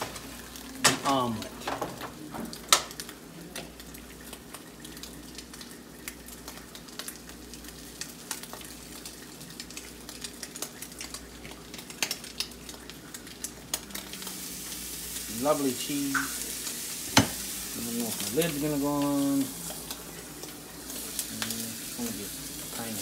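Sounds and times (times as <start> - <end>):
omelet sizzling in frying pan: 0.0 - 23.0.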